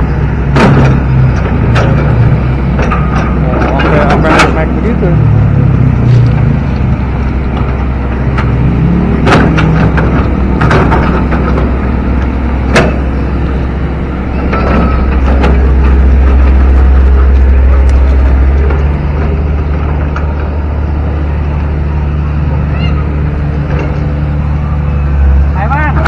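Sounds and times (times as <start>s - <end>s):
excavator diesel engine under load: 0.0s - 26.0s.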